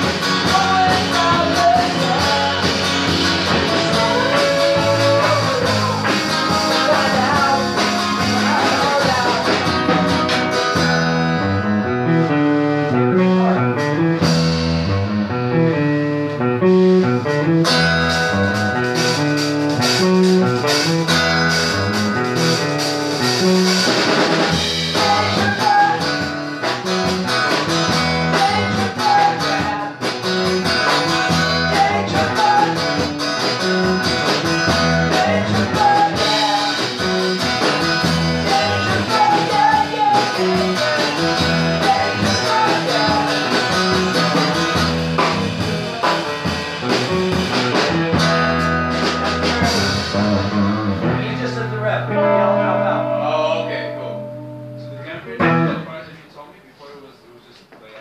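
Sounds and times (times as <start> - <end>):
electric bass riff: 0.0 - 56.0
drum kit: 0.0 - 56.1
electric and acoustic guitars: 0.0 - 56.3.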